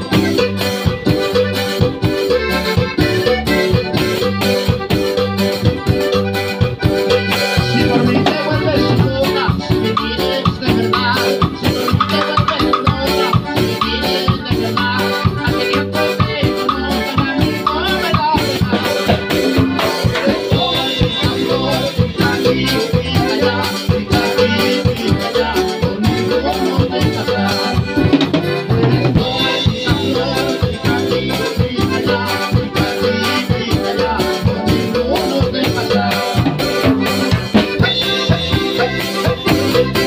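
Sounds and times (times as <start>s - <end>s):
accordion and keyboard cumbia music: 0.0s - 40.0s.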